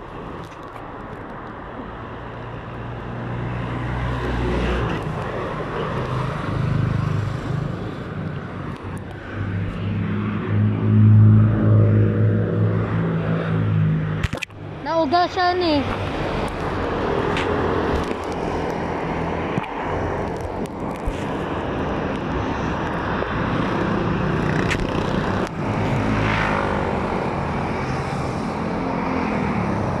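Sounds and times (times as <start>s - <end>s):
traffic engine noise: 0.0s - 30.0s.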